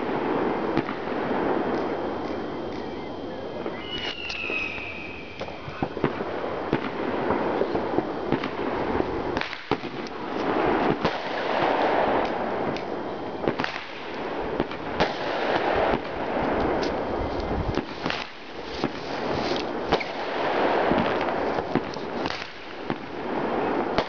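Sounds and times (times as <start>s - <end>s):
fireworks bangs and pops: 0.0s - 2.9s, 3.6s - 24.0s
dense fireworks noise: 0.0s - 24.0s.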